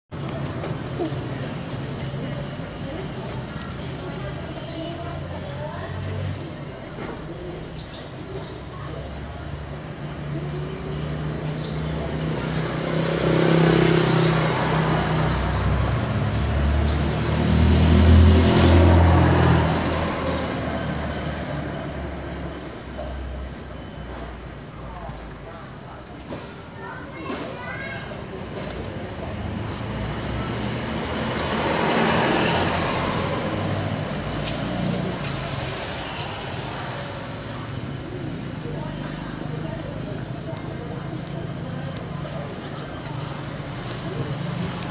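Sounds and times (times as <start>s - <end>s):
vehicle engine and road noise: 0.1s - 44.9s.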